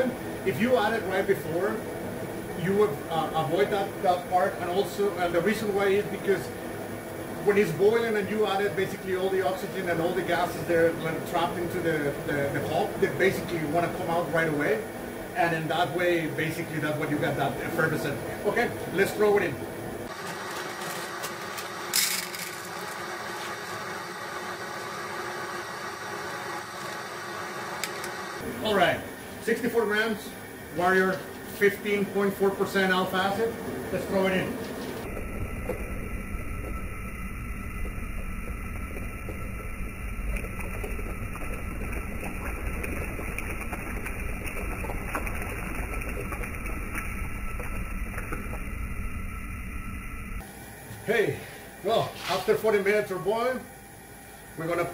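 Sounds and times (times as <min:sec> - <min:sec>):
liquid at a rolling boil: 0:00.0 - 0:54.9
propane burner rumble and hiss: 0:00.0 - 0:54.9.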